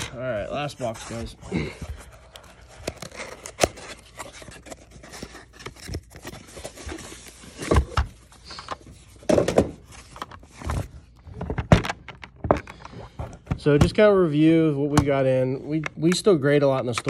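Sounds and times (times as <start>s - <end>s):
rustling of box and plastic: 0.0s - 14.2s.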